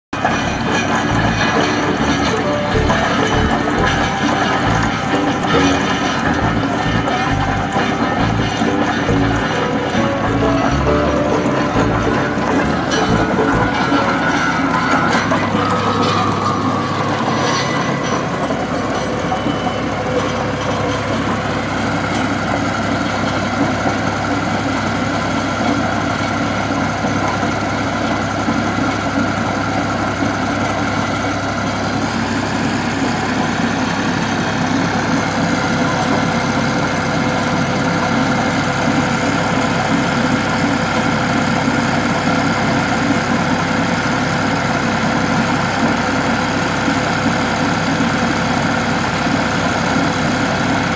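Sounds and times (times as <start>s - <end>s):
tractor engine running: 0.1s - 50.9s
chain trencher digging soil: 0.2s - 50.9s.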